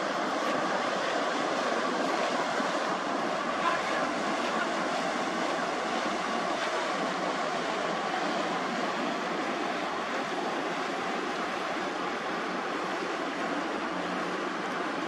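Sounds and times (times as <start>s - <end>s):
ferry engine noise: 0.0s - 15.0s
water washing along hull: 0.0s - 15.0s.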